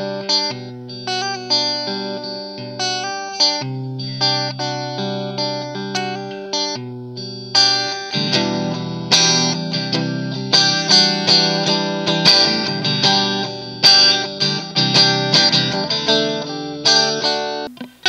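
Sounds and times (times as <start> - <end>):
clean electric guitar chords and notes: 0.0 - 18.0.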